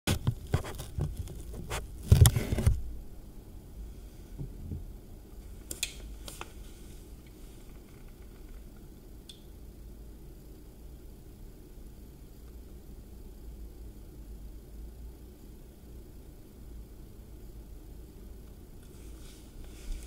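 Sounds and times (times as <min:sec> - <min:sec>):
low steady hum: 0:00.1 - 0:20.0.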